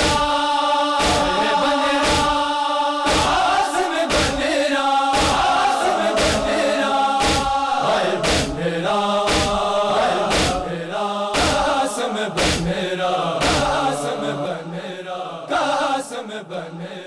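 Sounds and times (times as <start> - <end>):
rhythmic chest-beating: 0.0 - 14.2
men chanting in unison: 0.0 - 17.0.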